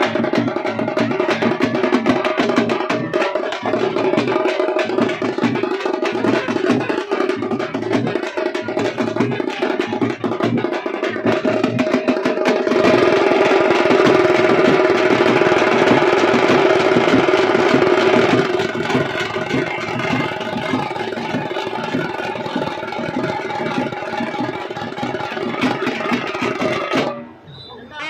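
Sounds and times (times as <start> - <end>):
fast dense drumming: 0.0 - 27.2.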